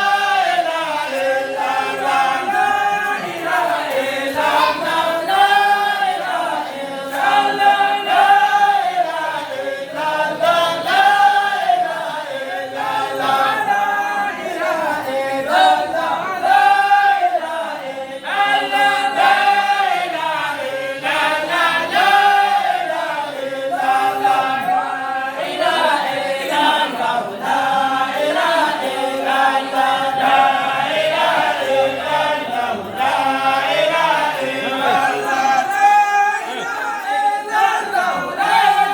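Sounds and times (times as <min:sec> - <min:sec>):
group of voices chanting: 0:00.0 - 0:38.9.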